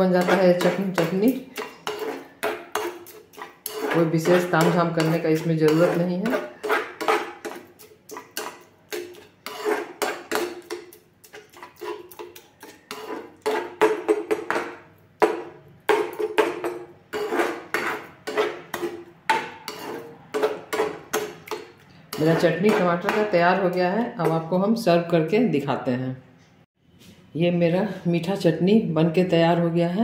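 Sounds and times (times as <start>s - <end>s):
metal spatula scraping a frying pan: 0.0s - 24.4s.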